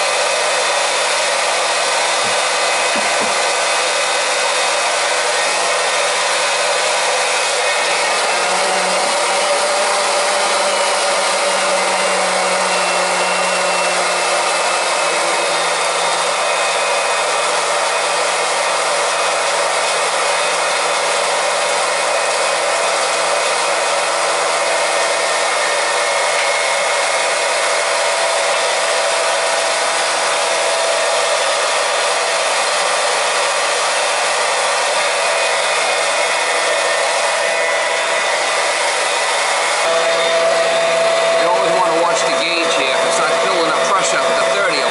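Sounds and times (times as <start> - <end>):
electric pump motor humming: 0.0 - 44.9.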